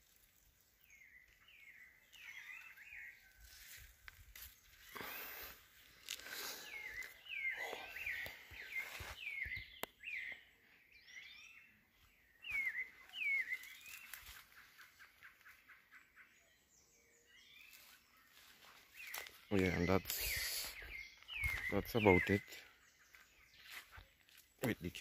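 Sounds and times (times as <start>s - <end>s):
bird chirps: 0.7s - 25.0s.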